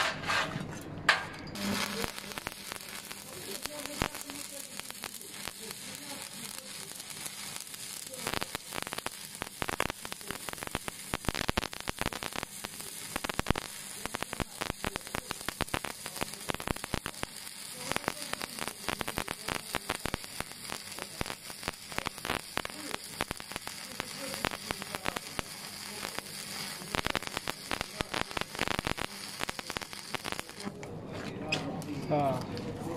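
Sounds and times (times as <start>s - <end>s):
welding arc sizzling and crackling: 1.0s - 30.9s.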